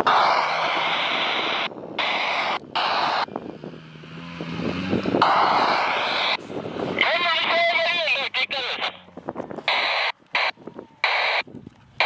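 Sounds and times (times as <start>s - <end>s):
distant off-road vehicle engines: 0.0s - 12.0s.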